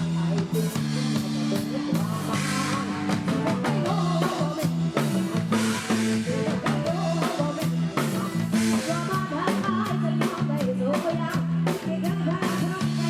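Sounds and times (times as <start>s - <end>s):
bass line: 0.0s - 13.0s
drum kit beat: 0.0s - 13.0s
person singing: 0.0s - 13.0s.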